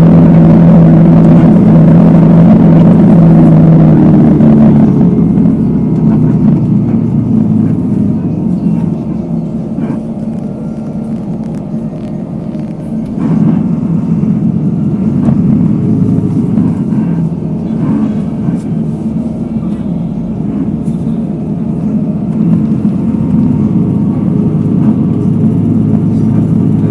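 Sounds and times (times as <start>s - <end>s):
heavy vehicle engine: 0.0s - 26.9s
road traffic passing: 0.0s - 26.9s.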